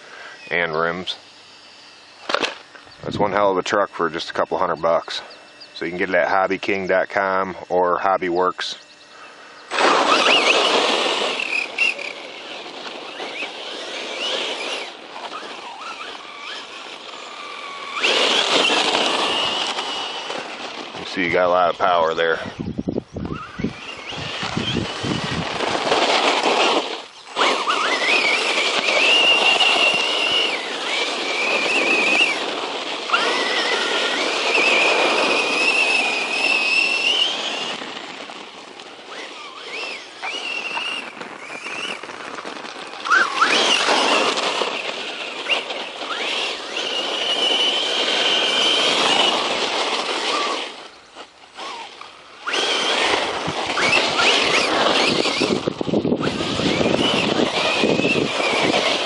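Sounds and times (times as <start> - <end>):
electric motor whining: 0.0 - 59.0
rushing tyres and drivetrain: 9.6 - 21.3, 23.0 - 59.0.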